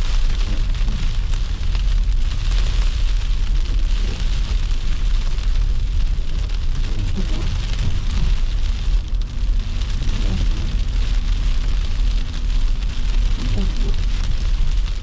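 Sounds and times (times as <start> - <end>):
car driving rumble: 0.0 - 15.0
tyre and road noise hiss: 0.0 - 15.0.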